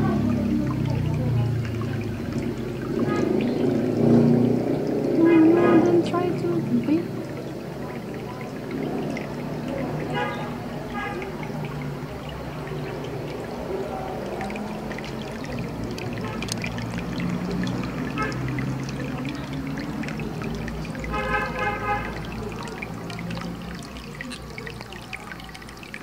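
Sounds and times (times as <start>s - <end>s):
water trickling and pouring: 0.0s - 26.0s.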